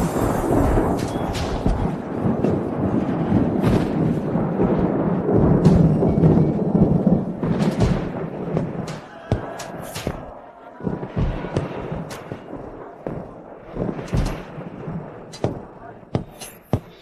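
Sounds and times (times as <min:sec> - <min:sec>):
booming drums: 0:00.0 - 0:17.0.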